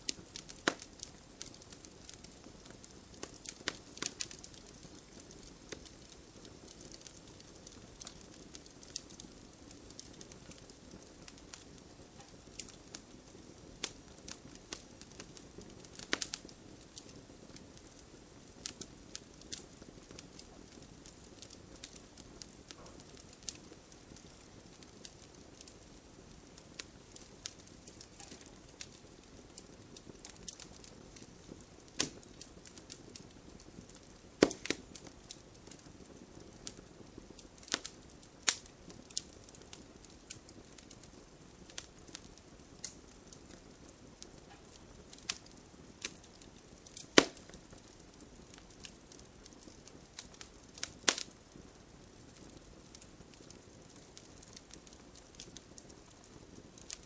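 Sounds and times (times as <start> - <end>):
bonfire crackling and popping: 0.0 - 57.0
faint light rain hiss: 0.0 - 57.0.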